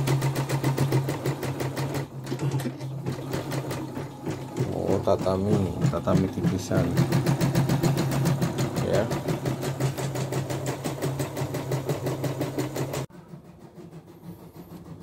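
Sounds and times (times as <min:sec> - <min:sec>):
embroidery machine stitching: 0:00.0 - 0:13.1.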